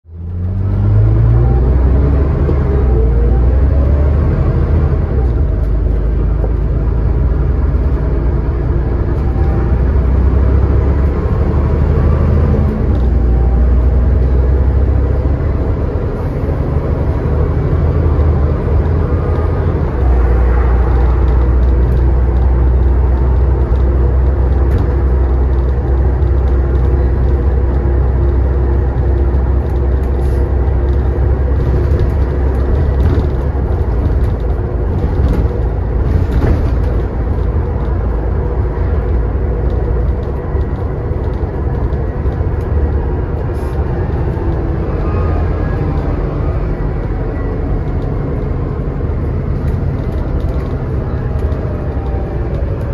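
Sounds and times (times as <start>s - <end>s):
bus diesel engine drone: 0.0s - 52.9s.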